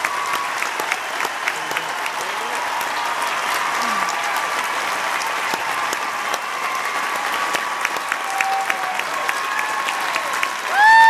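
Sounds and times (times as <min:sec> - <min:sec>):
audience applauding: 0:00.0 - 0:11.0
close hand claps: 0:00.0 - 0:11.0.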